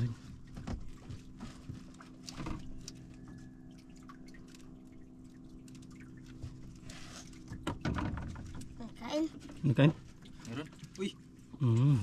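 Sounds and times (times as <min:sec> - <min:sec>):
faint steady hum: 0:00.0 - 0:12.0
water drips and splashes: 0:00.0 - 0:12.0.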